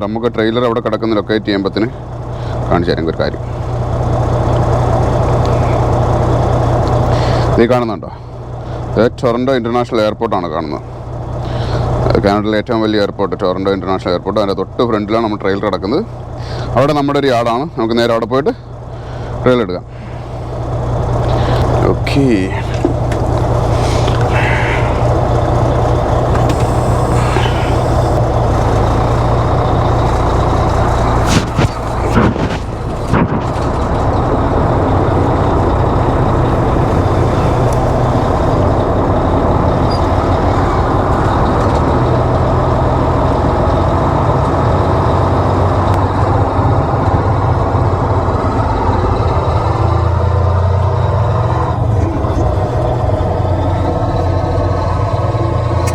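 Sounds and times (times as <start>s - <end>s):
diesel truck engine running: 0.0s - 55.9s.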